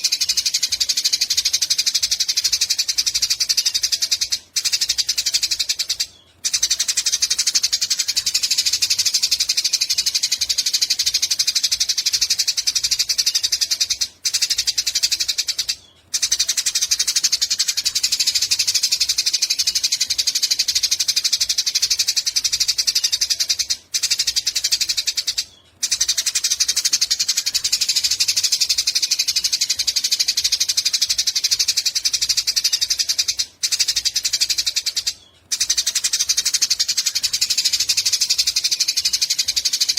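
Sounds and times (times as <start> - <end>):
sparrow chattering trill: 0.0 - 39.9.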